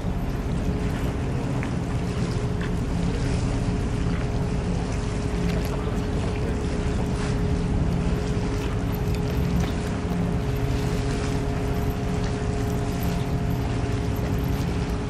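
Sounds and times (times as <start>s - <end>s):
ship engine drone: 0.0s - 15.0s
wind and water wash: 0.0s - 15.0s.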